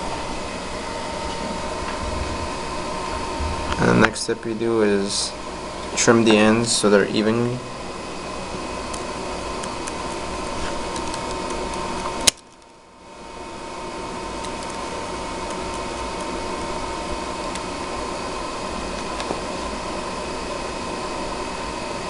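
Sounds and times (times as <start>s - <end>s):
room hum: 0.0s - 22.0s.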